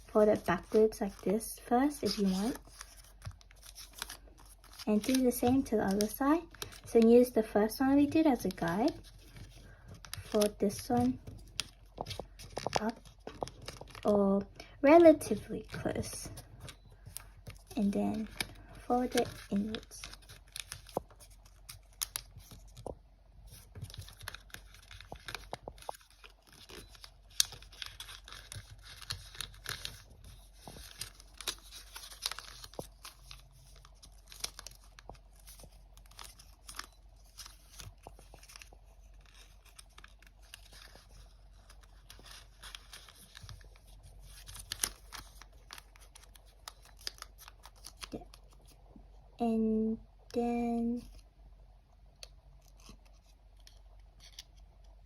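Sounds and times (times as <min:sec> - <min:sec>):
paper folding and crinkling: 0:00.0 - 0:49.1, 0:52.2 - 0:55.0.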